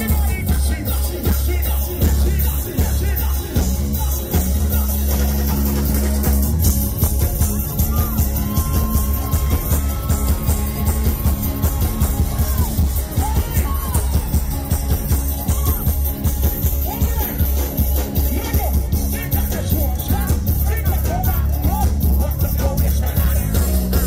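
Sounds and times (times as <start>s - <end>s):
person singing: 0.0s - 5.8s, 7.7s - 24.0s
heavy bass beat: 0.0s - 24.0s
live band playing calypso music: 0.0s - 24.0s.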